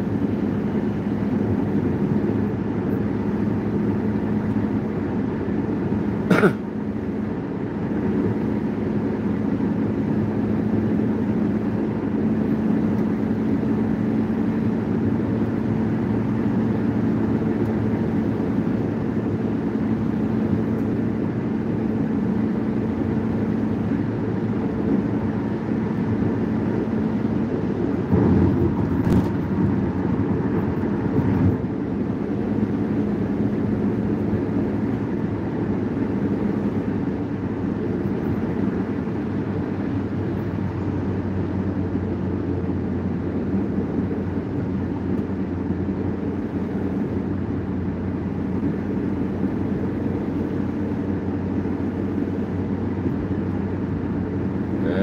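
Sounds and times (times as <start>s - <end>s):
car cabin road and engine noise: 0.0s - 55.0s.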